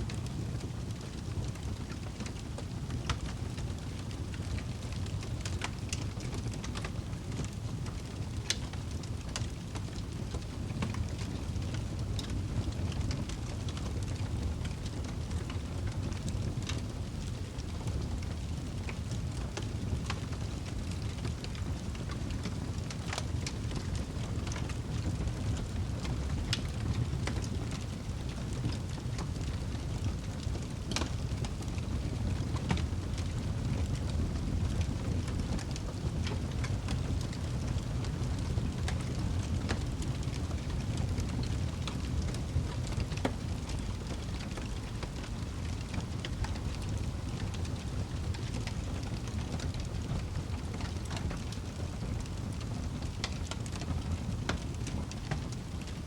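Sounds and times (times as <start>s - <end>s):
low rush of flames: 0.0s - 56.0s
wood crackling and popping: 0.0s - 56.0s.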